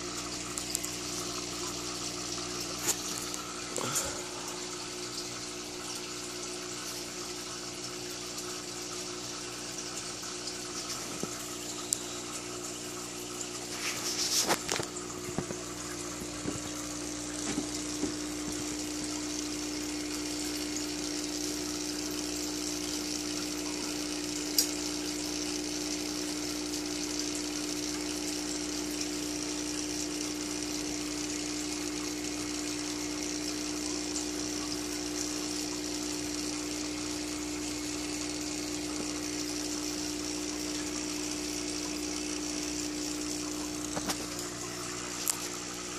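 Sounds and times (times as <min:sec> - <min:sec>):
bubbling and trickling water: 0:00.0 - 0:45.9
motor hum: 0:00.0 - 0:45.9.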